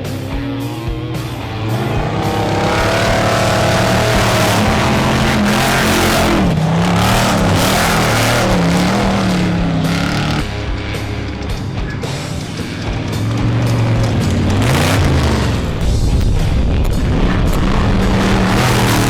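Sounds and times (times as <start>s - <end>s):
music playing: 0.0s - 19.0s
race vehicle engine revving: 0.0s - 19.0s.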